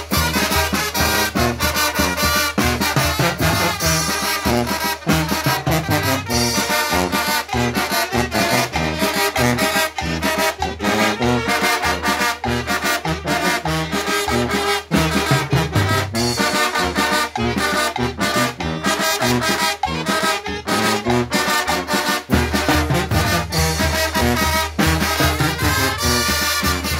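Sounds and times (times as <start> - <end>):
brass band playing: 0.0 - 26.9
cowbells: 0.0 - 26.9
snare drums: 0.0 - 26.9.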